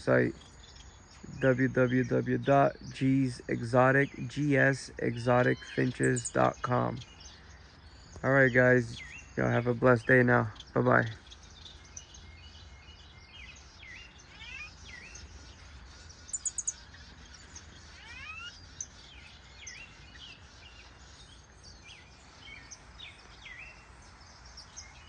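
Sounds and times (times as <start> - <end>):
finches chirping: 0.0 - 25.0.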